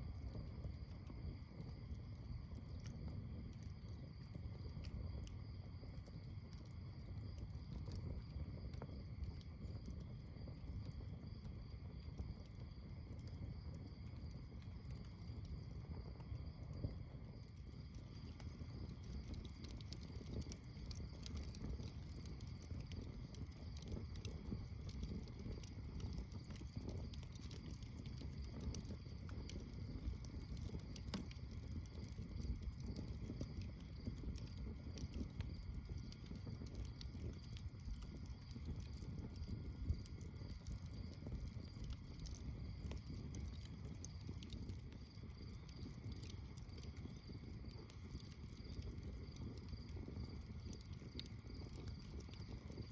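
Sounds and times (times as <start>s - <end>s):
campfire rumbling: 0.0s - 52.9s
night insects chirring: 0.3s - 52.9s
campfire pops: 5.8s - 11.6s, 12.2s - 52.9s.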